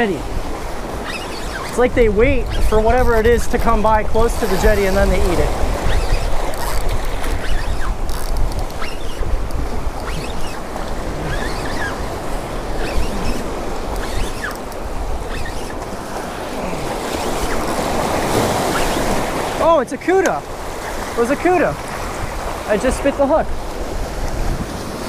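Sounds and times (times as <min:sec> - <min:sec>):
wind buffeting microphone: 0:00.0 - 0:19.6, 0:20.4 - 0:25.0
waves breaking on rocks: 0:00.0 - 0:25.0.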